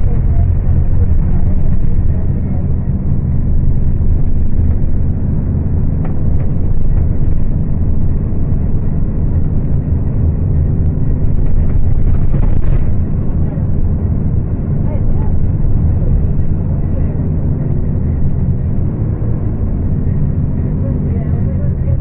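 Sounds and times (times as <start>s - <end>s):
bus diesel engine at high revs: 0.0s - 22.0s.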